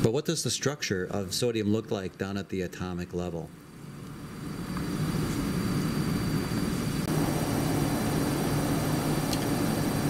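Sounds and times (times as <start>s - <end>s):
low mechanical drone with hum: 0.0s - 10.0s.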